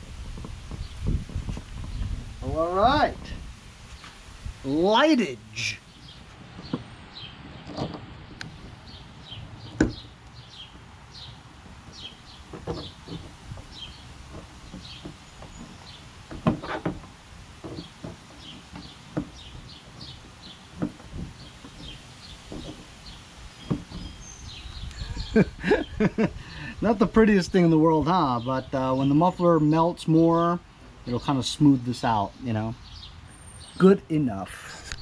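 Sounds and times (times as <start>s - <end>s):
small birds chirping: 0.3s - 35.0s.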